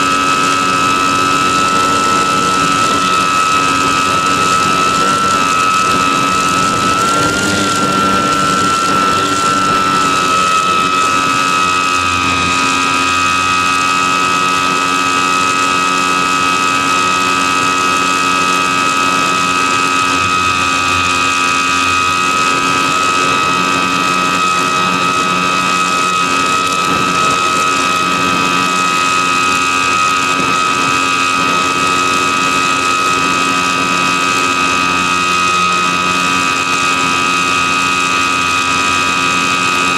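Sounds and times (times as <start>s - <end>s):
electric propeller high-pitched whine: 0.0s - 39.9s.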